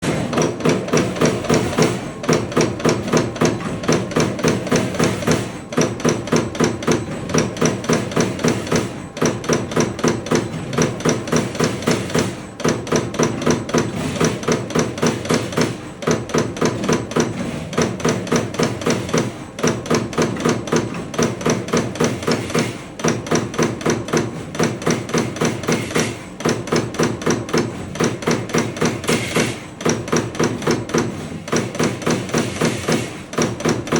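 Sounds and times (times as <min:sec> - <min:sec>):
punch press strikes on steel sheet: 0:00.0 - 0:33.9.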